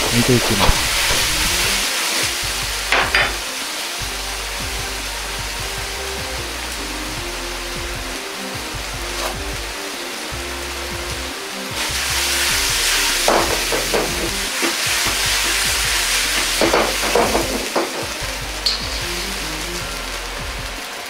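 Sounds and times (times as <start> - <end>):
background music: 0.0 - 21.0
food bubbling and sizzling in wok: 0.0 - 21.0.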